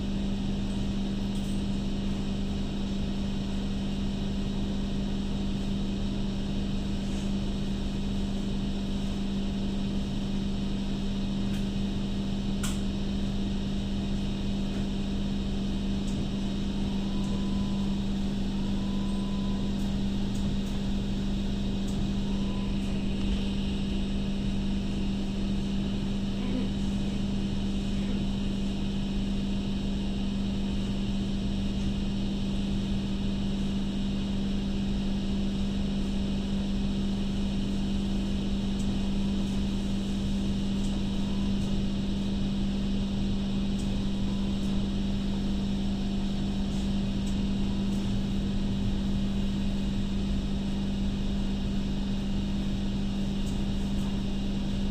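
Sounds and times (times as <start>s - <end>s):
light rail car running on track: 0.0s - 54.5s.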